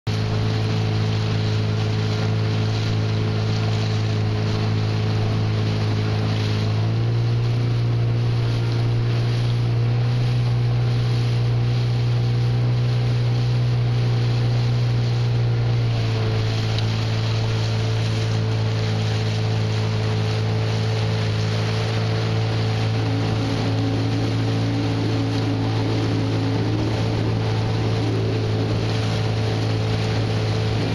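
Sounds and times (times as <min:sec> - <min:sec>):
motorboat engine humming: 0:00.0 - 0:30.9
water wash: 0:00.1 - 0:30.9.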